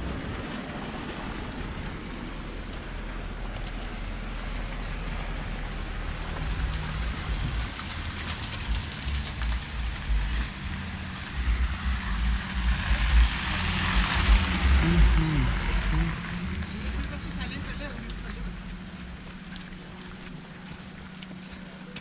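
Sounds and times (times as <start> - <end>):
low rumbles: 0.0 - 21.7
wet snow falling: 1.5 - 21.7.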